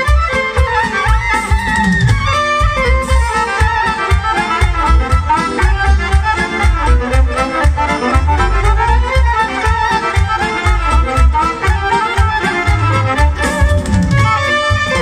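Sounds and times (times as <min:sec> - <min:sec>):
clarinet: 0:00.0 - 0:15.0
electronic keyboard: 0:00.0 - 0:15.0
steady bass beat: 0:00.0 - 0:15.0
violins: 0:00.0 - 0:15.0.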